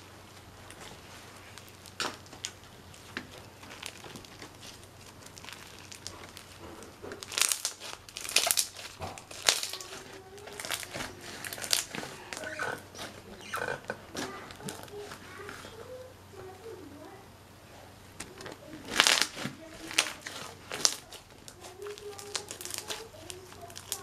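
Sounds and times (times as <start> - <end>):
crunchy slime crackling: 0.0 - 17.2, 17.9 - 24.0.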